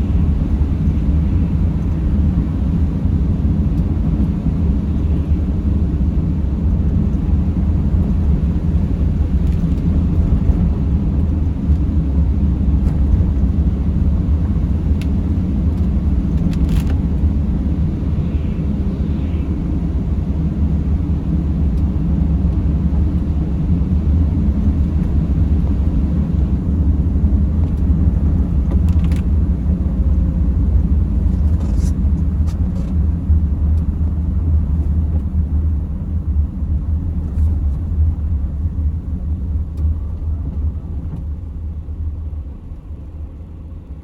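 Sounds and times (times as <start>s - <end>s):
van engine and road noise: 0.0s - 44.0s.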